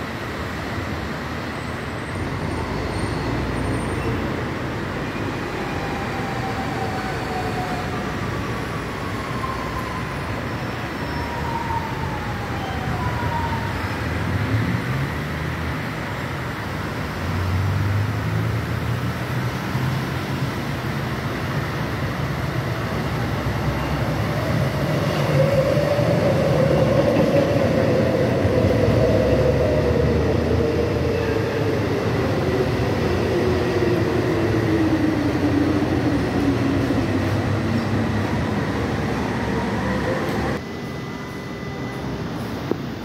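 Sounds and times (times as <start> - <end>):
metro train rumble: 0.0 - 17.3, 18.2 - 43.0
train whine sliding down in pitch: 0.3 - 14.5, 22.6 - 43.0.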